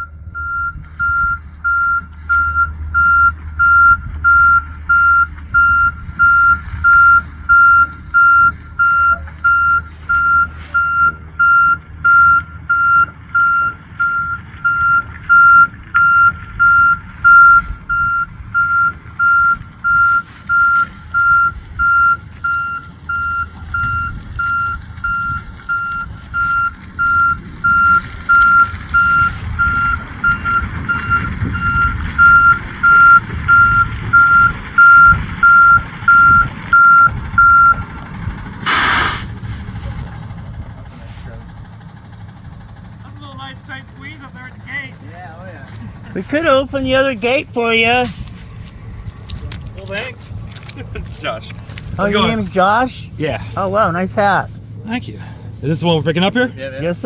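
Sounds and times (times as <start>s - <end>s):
truck backup alarm beeping: 0.0s - 45.0s, 45.6s - 57.0s
low engine rumble: 0.0s - 57.0s.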